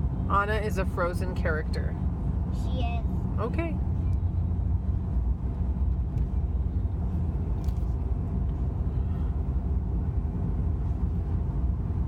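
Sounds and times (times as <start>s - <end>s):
truck road and engine rumble: 0.0s - 12.0s.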